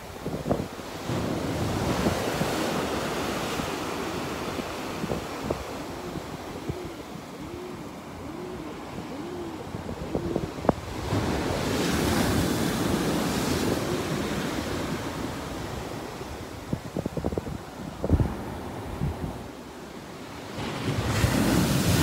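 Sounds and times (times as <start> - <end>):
wind buffeting microphone: 0.0 - 19.5
ocean surf on sandy beach: 0.0 - 22.0.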